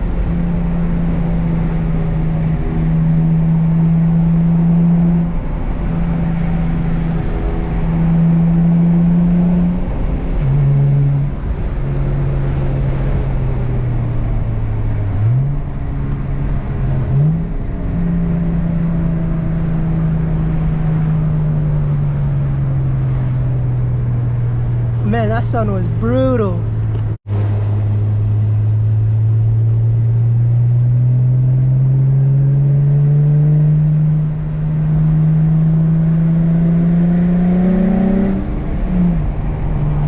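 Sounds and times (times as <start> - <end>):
car exhaust drone: 0.0 - 40.0.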